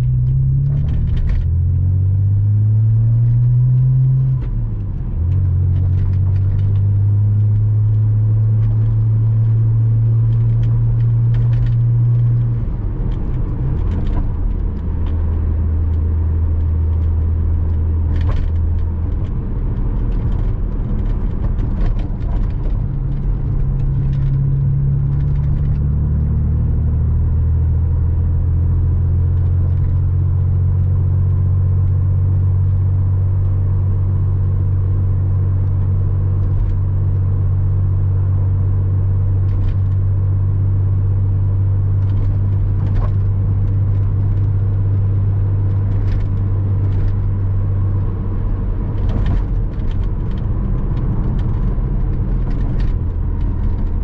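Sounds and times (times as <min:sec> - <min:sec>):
car engine cruising: 0:00.0 - 0:54.0
road noise: 0:00.0 - 0:54.0.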